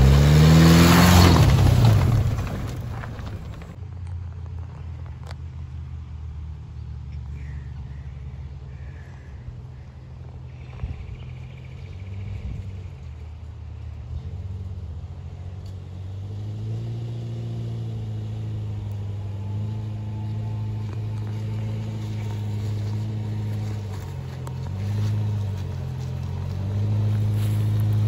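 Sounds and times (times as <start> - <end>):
car engine running: 0.0 - 5.3, 6.7 - 28.0.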